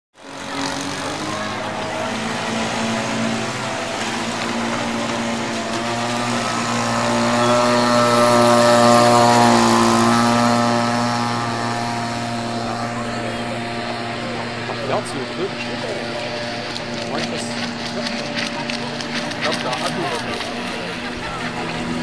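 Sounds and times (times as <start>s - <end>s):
model speedboat engines droning: 0.2s - 22.0s.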